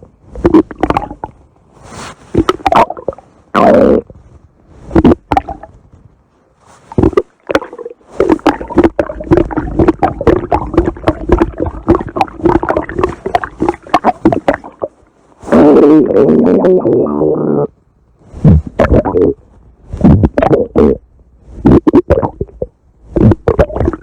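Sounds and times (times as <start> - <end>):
stomach growling and gurgling: 0.0 - 1.4, 2.3 - 5.9, 6.9 - 24.0.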